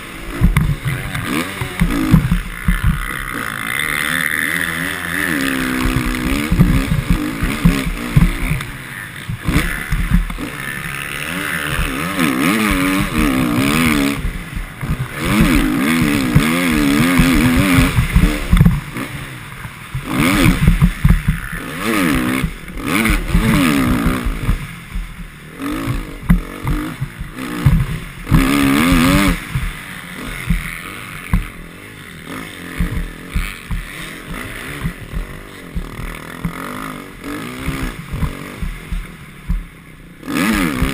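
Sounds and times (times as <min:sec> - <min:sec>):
motorcycle engine revving: 0:00.0 - 0:40.9
rough rushing noise and clatter: 0:00.0 - 0:40.9.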